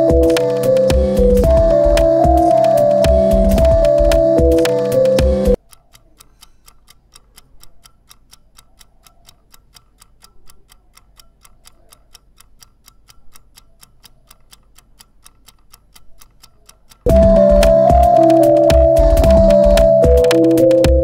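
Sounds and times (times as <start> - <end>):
mechanical kitchen timer ticking: 0.0 - 21.0.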